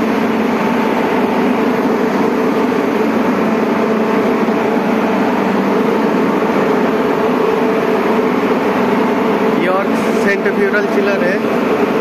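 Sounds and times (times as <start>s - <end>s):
chiller machinery drone: 0.0s - 12.0s.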